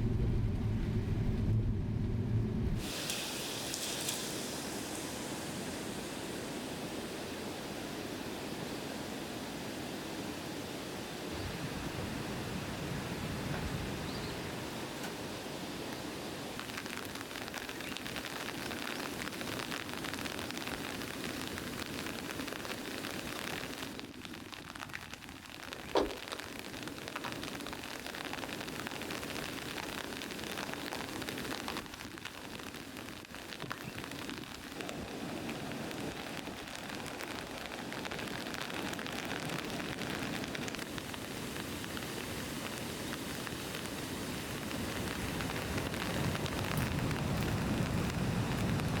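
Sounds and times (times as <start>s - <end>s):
heavy rain falling: 2.8s - 49.0s.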